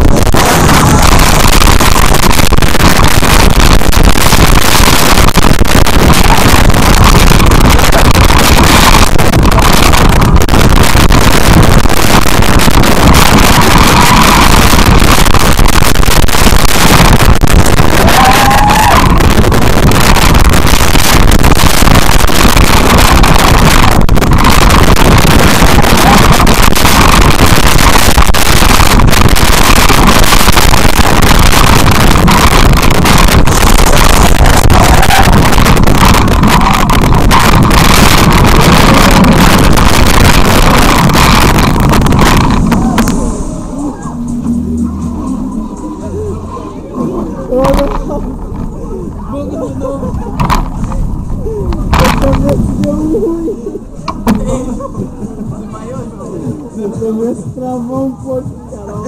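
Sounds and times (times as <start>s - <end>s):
distorted wind rush on microphone: 0.0s - 59.0s.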